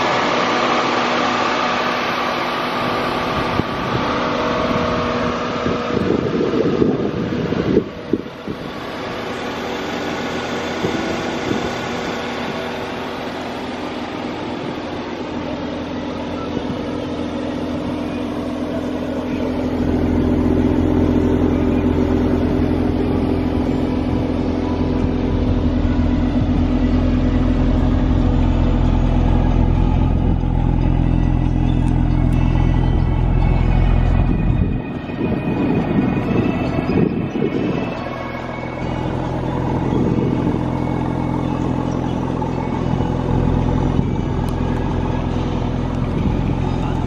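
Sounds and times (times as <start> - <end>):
car engine idling through exhaust: 0.0 - 47.0.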